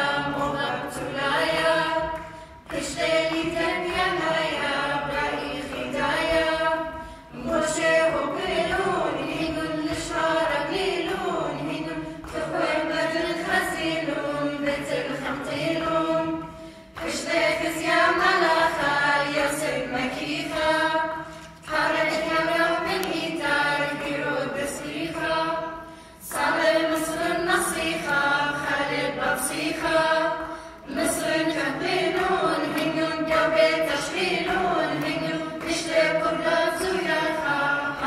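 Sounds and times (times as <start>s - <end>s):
choir singing a hymn a cappella: 0.0s - 38.0s.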